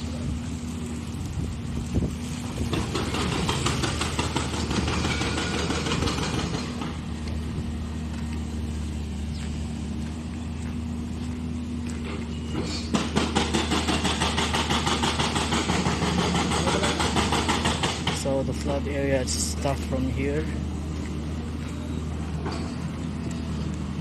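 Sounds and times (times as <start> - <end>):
excavator diesel engine idling: 0.0 - 24.0
motorcycle passing on wet street: 0.0 - 24.0.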